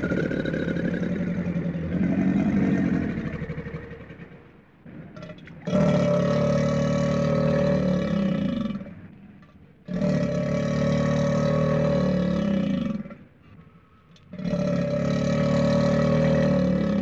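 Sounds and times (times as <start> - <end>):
long even roars: 0.0 - 17.0.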